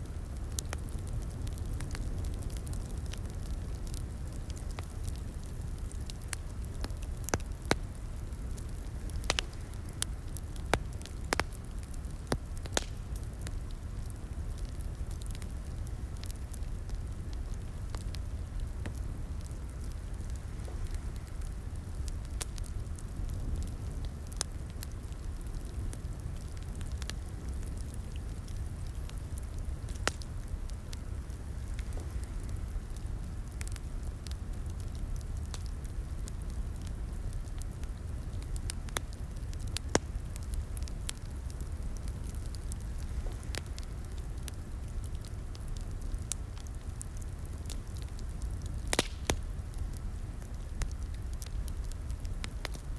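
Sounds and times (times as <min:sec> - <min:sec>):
low rumble of flames: 0:00.0 - 0:52.9
wood fire crackling: 0:00.0 - 0:52.9.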